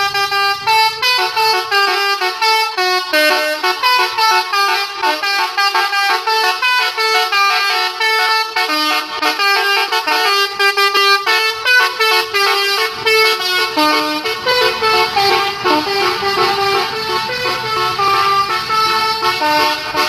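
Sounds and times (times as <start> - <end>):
multi-tone air horn tune: 0.1 - 20.0.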